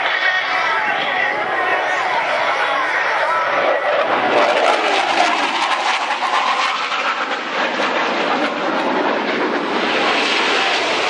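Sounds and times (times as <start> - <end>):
jet roar with rough crackle: 0.0 - 11.0.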